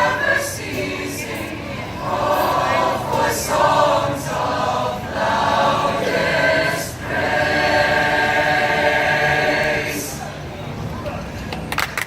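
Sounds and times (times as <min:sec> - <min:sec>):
choir singing: 0:00.0 - 0:10.4.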